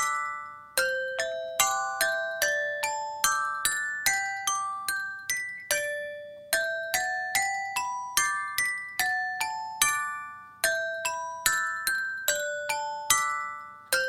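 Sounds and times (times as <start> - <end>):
bell-like melody: 0.0 - 14.0.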